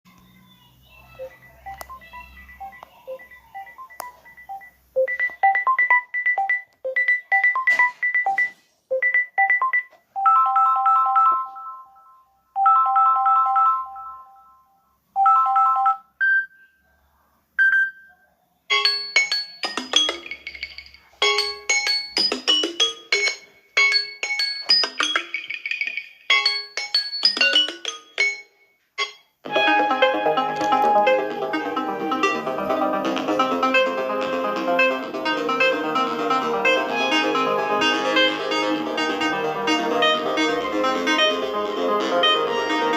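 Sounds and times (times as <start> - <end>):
phone ringtone melody: 1.2 - 16.5, 18.7 - 42.9.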